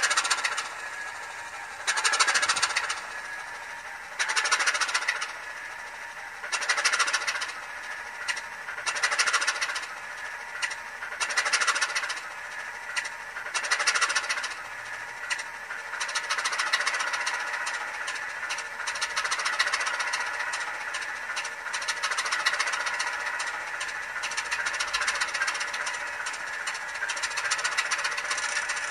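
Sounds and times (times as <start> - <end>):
tinny diesel engine starting: 0.0 - 28.9.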